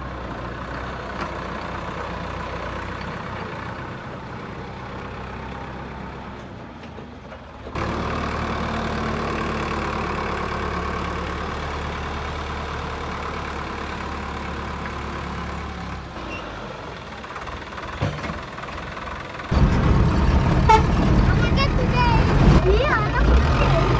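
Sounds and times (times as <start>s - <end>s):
heavy vehicle engine running: 0.0s - 23.9s.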